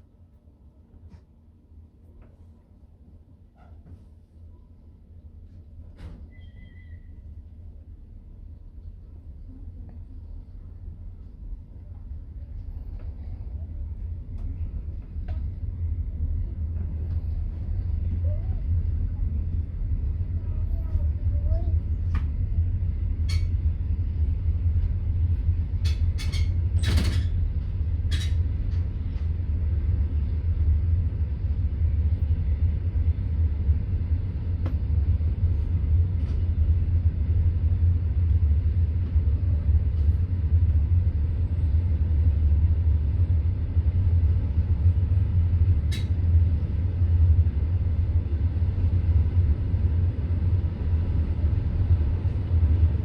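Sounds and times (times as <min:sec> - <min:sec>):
train wheels rumbling: 0:09.8 - 0:53.0.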